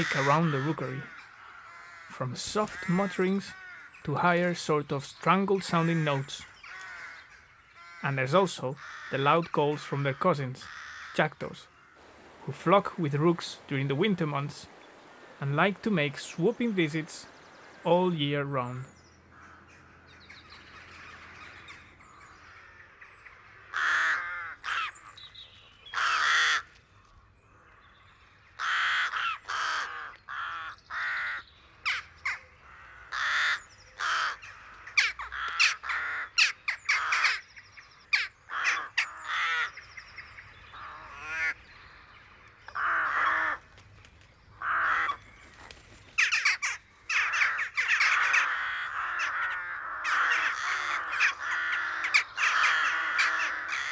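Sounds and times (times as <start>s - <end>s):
rook caws: 0.0s - 4.5s, 5.7s - 17.9s, 19.3s - 26.8s, 27.5s - 43.7s, 44.5s - 53.9s
jackdaws calling: 0.0s - 18.8s, 23.7s - 26.8s, 28.4s - 37.4s, 38.1s - 53.9s.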